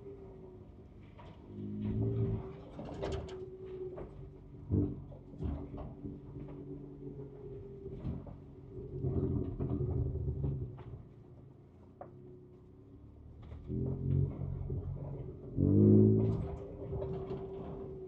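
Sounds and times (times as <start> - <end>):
truck engine from inside cab: 0.0 - 18.0.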